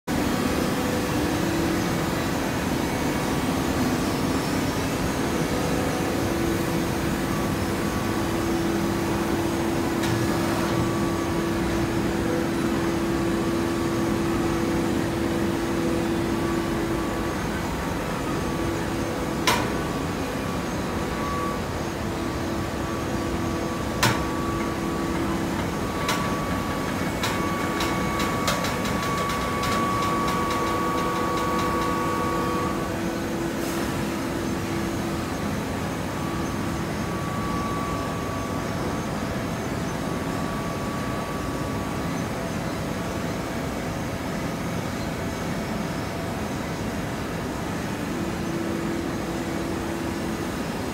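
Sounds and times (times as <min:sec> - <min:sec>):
hydraulic baler humming: 0:00.1 - 0:50.9.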